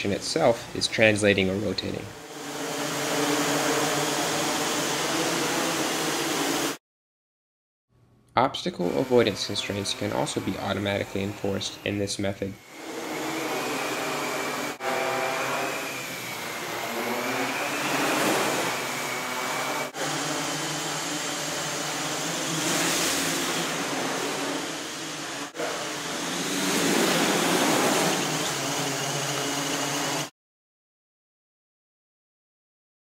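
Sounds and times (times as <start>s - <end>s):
drone propellers buzzing: 0.8s - 6.8s, 8.8s - 12.0s, 12.6s - 30.3s.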